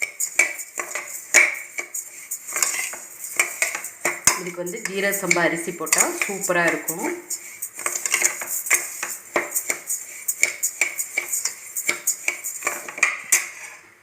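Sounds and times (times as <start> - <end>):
spoon scraping and knocking a pan: 0.0 - 13.8.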